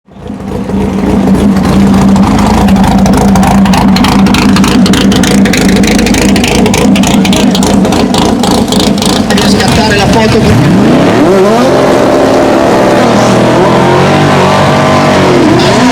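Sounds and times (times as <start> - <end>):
loud car engine running: 0.1 - 15.9.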